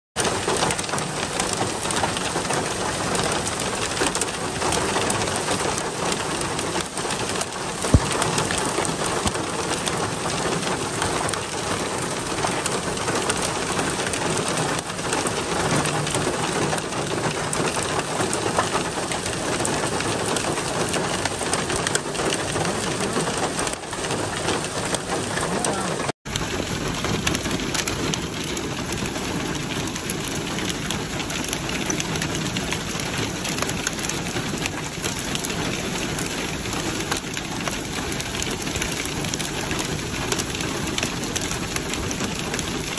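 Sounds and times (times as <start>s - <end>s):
heavy rain and hail: 0.2s - 42.9s.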